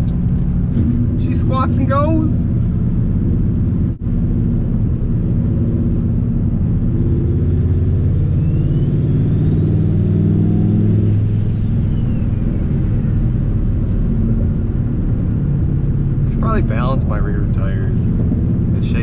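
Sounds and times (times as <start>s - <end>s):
truck engine accelerating: 0.0s - 19.0s
turbo whine: 0.0s - 19.0s.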